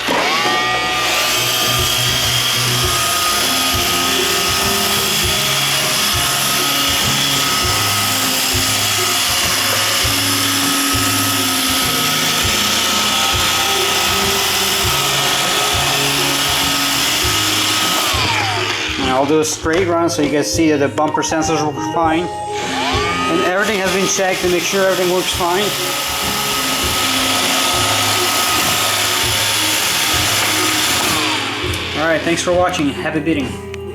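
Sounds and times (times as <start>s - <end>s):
robot vacuum running: 0.0s - 20.0s, 22.5s - 33.4s.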